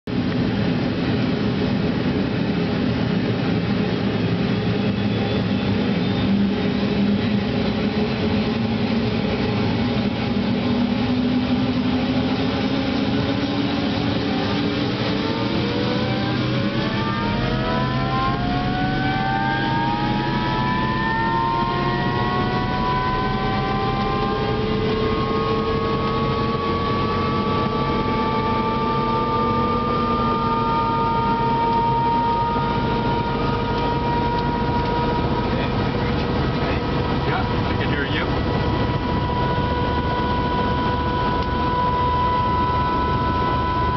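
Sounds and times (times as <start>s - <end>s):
helicopter engine and rotor: 0.1s - 43.9s
turbine whine rising in pitch: 0.1s - 43.9s.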